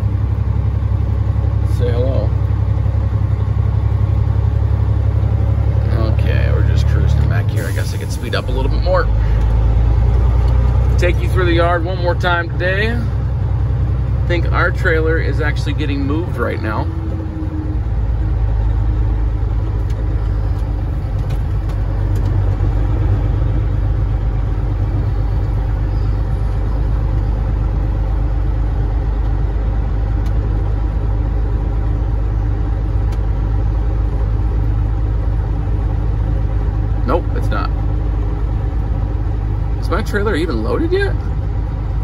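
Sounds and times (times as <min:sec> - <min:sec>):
truck diesel engine drone: 0:00.0 - 0:42.0.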